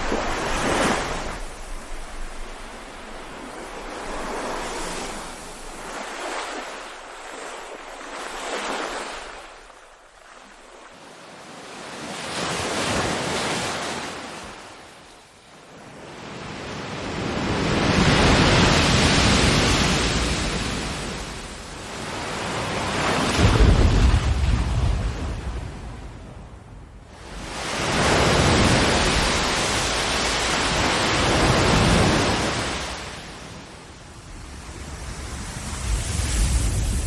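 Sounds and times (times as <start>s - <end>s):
ocean waves breaking: 0.0s - 37.0s.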